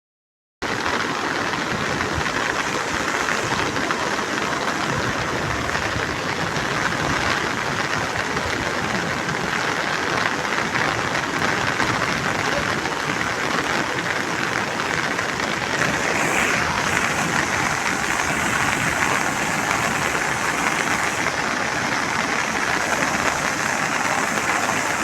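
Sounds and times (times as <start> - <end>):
floodwater rushing: 0.7 - 25.0.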